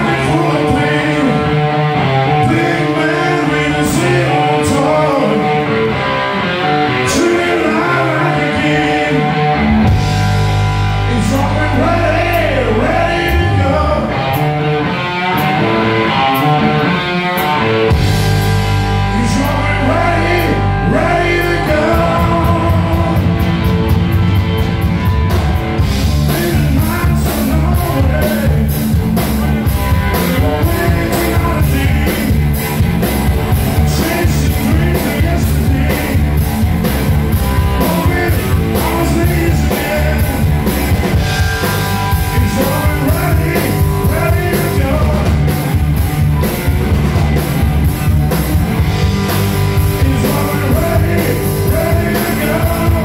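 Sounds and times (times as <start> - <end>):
bass guitar: 0.0 - 53.0
drum kit: 0.0 - 53.0
electric guitar: 0.0 - 53.0
keyboard: 0.0 - 53.0.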